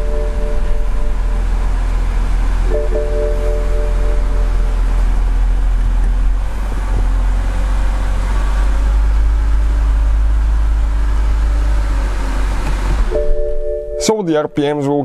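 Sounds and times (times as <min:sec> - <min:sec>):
car engine idling unsteadily: 0:00.0 - 0:15.0.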